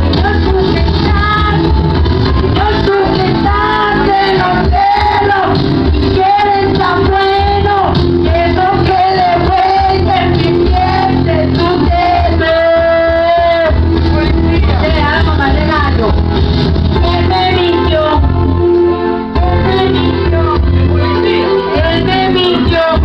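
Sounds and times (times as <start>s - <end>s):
woman singing into a microphone: 0.0s - 1.8s, 2.5s - 16.1s, 17.0s - 23.0s
bass-heavy backing track: 0.0s - 23.0s.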